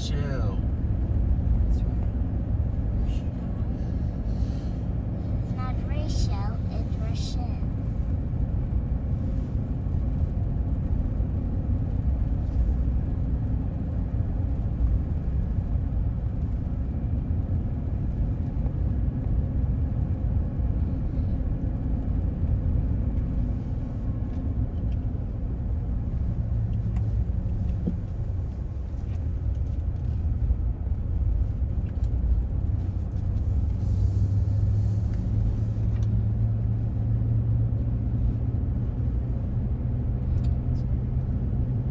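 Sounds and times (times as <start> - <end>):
cabin road noise: 0.0 - 41.9
truck engine rumble: 0.0 - 41.9.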